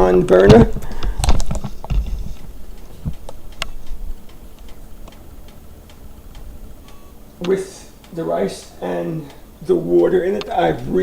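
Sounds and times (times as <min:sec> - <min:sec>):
light clicks: 0:00.3 - 0:09.5.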